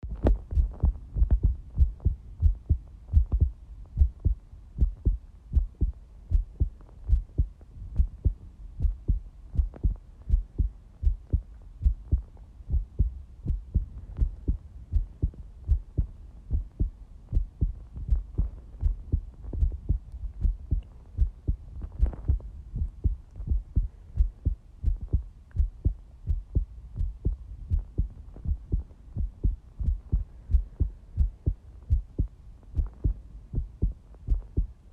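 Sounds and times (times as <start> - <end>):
heartbeat thumps: 0.0 - 34.8.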